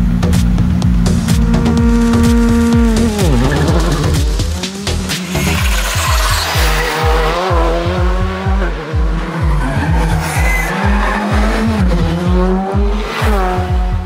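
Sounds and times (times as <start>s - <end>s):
fast beat music: 0.0s - 14.0s
rally car engine revving: 0.0s - 14.0s.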